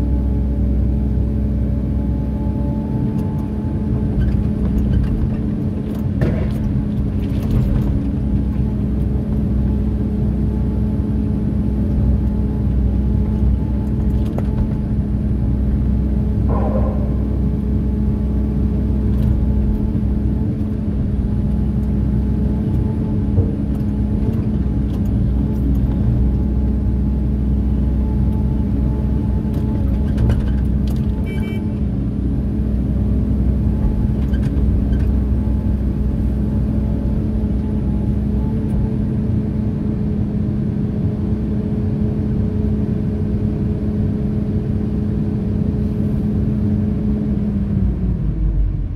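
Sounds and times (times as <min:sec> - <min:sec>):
diesel engine humming: 0:00.0 - 0:48.9.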